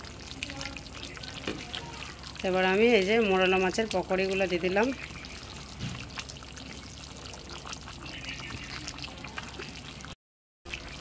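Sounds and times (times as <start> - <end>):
curry bubbling in a pot: 0.0 - 11.0.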